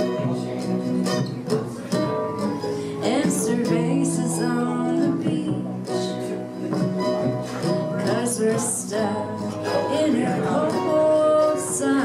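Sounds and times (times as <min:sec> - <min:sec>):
acoustic guitars playing country tune: 0:00.0 - 0:12.0.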